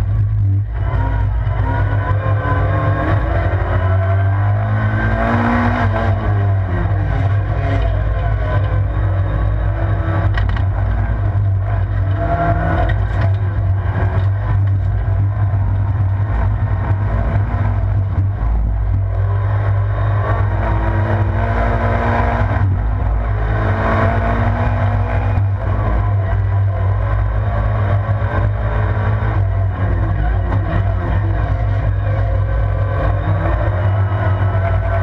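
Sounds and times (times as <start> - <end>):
racing car engine revving: 0.0 - 35.0.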